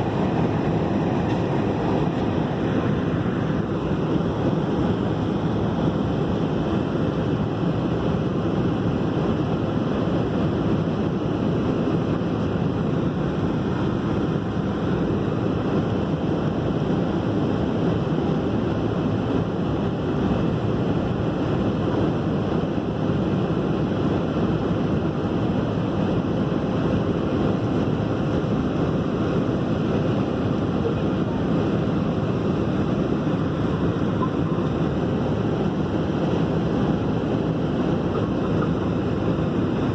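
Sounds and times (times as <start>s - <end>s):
airliner engines running: 0.0s - 39.9s.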